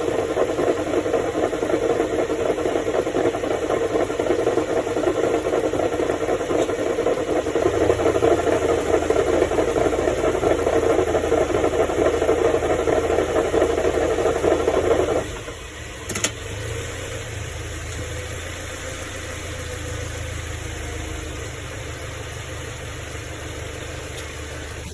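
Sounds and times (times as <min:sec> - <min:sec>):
car differential grinding: 0:00.0 - 0:24.9.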